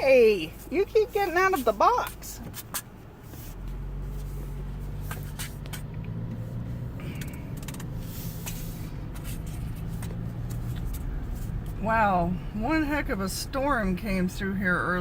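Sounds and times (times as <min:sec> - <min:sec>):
car driving inside cabin: 0:00.0 - 0:15.0.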